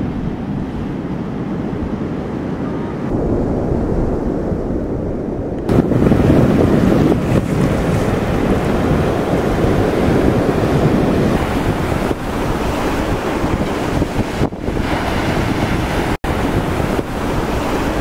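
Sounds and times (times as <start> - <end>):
ocean surf around wooden pilings: 0.0 - 18.0
wind buffeting microphone: 0.0 - 18.0.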